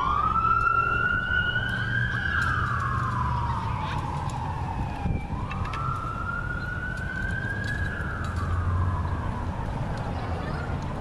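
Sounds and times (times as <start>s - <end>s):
siren wailing: 0.0s - 10.0s.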